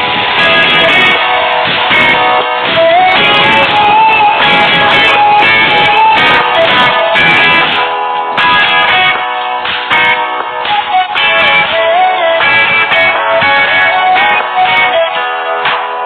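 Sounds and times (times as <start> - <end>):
lead melody with wavering note: 0.0 - 16.0
strummed guitar: 0.0 - 16.0.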